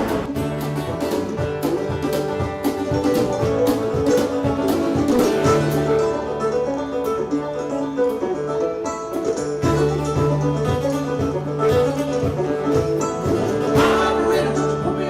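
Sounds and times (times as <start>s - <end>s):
bluegrass band playing: 0.0s - 15.0s.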